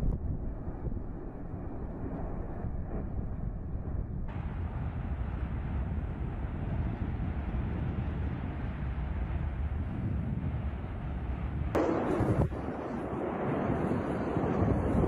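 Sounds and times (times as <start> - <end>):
steady low outdoor rumble: 0.0 - 15.0.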